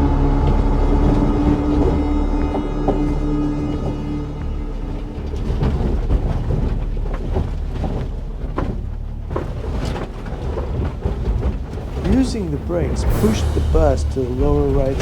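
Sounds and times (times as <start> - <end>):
vehicle body rattling: 0.0 - 15.0
vehicle rumbling downhill: 0.0 - 15.0.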